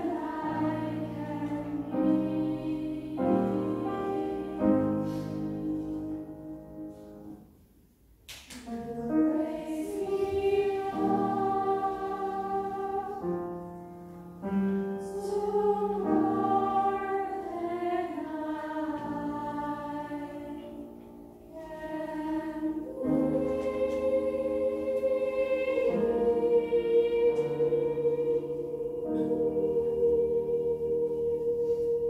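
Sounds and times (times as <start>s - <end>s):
children's choir singing: 0.0s - 7.5s, 8.6s - 32.0s.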